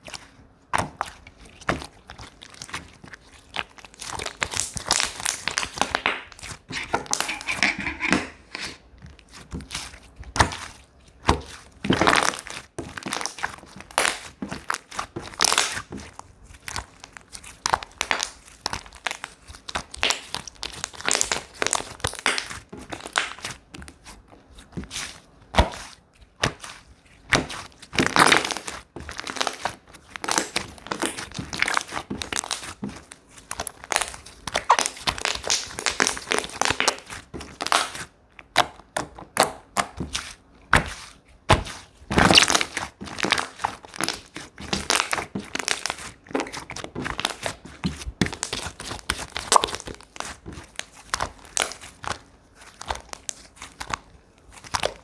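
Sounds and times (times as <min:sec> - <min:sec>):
slime crackling and popping: 0:00.1 - 0:55.0.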